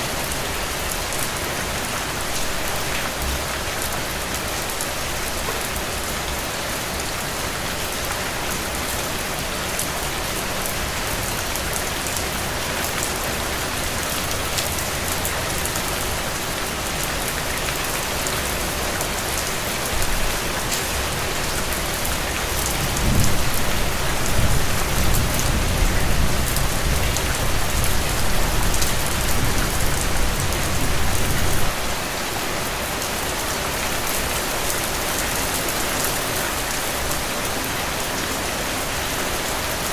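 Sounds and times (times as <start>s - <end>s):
heavy rain on ground and puddles: 0.0s - 39.9s.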